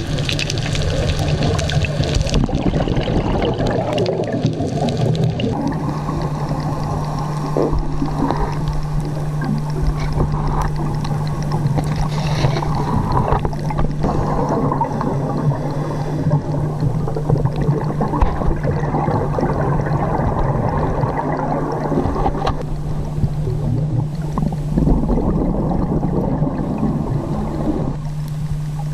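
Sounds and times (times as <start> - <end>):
low hum: 0.0 - 28.9
underwater crackling and clicking: 0.0 - 28.9.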